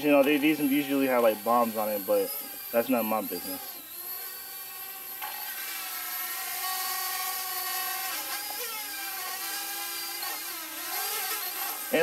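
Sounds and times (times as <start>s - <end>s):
drone rotors whining: 0.0s - 12.0s.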